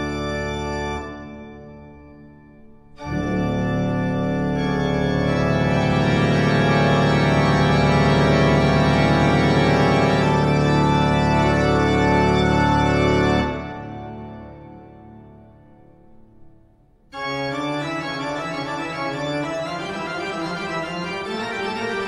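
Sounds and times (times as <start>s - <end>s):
sustained organ chord: 0.0s - 22.0s.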